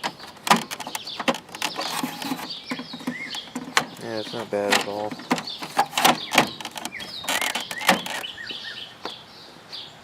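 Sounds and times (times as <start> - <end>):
air conditioner casing clicks and creaks: 0.0 - 8.3
birds chirping: 0.0 - 10.0.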